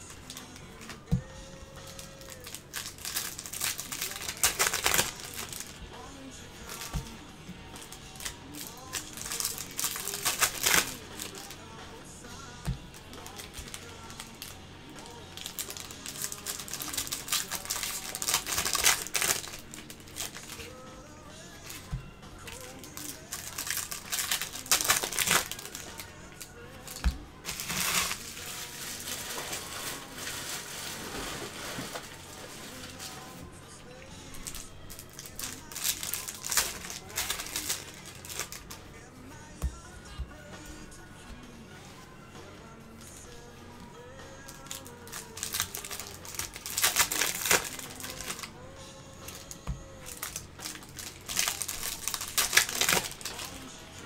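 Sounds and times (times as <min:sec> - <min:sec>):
card pack wrappers crinkling: 0:00.0 - 0:05.8, 0:06.6 - 0:11.6, 0:12.6 - 0:20.8, 0:21.4 - 0:33.4, 0:34.2 - 0:38.8, 0:44.4 - 0:48.6, 0:49.2 - 0:53.7.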